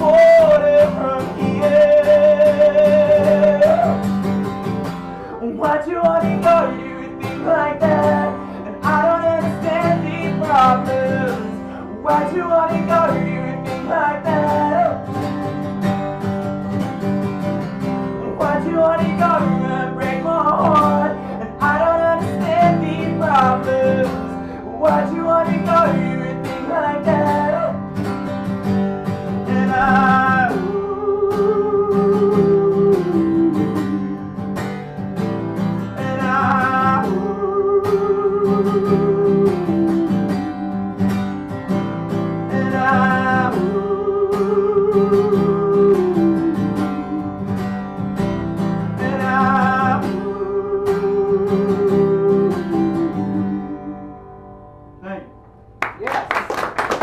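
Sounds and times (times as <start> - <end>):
person singing: 0.0 - 4.3, 5.2 - 15.6, 18.0 - 27.9, 29.3 - 34.6, 35.6 - 41.1, 42.3 - 47.7, 48.8 - 54.2
acoustic guitar strumming: 0.0 - 56.0.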